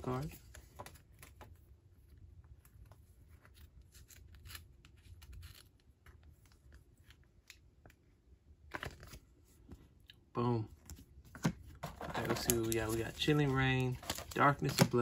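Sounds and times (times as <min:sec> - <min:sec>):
cards and packaging rustling: 0:00.0 - 0:08.0, 0:08.6 - 0:09.8, 0:10.8 - 0:15.0.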